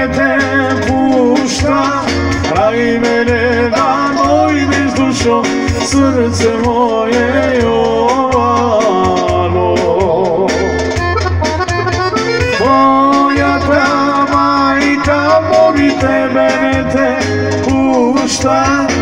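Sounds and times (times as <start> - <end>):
amplified folk band playing: 0.0 - 19.0.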